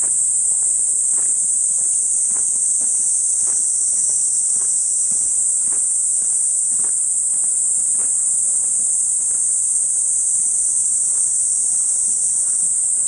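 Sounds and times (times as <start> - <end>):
faint footsteps on path: 0.0 - 12.8
cicadas droning: 0.0 - 13.0.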